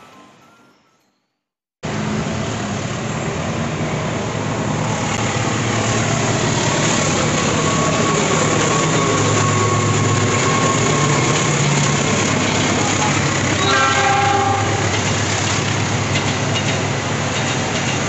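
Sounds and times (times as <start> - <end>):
diesel locomotive engine rumble: 1.8 - 18.0
train running noise: 1.8 - 18.0.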